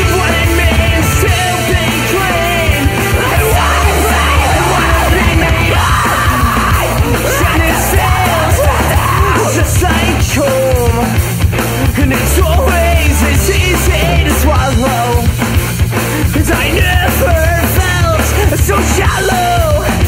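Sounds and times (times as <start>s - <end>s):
person singing and shouting: 0.0s - 11.2s, 11.8s - 15.3s, 16.1s - 20.0s
rock band with heavy bass and drums: 0.0s - 20.0s.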